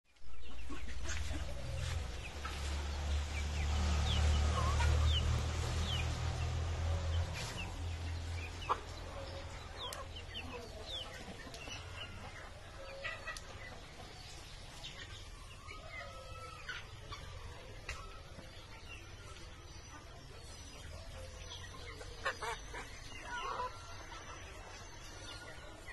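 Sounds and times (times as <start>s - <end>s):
chickens clucking and peeping: 0.2s - 25.9s.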